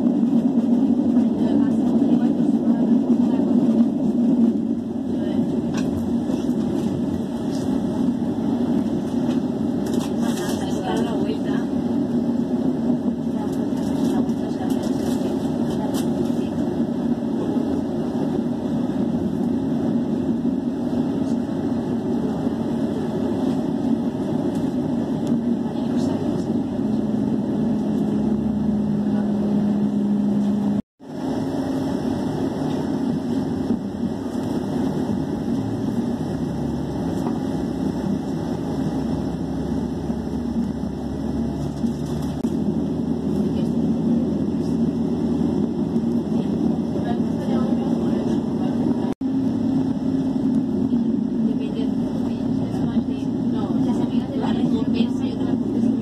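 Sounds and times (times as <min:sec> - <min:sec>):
steady hum: 0:00.0 - 0:56.0
train wheels rumbling: 0:00.0 - 0:56.0.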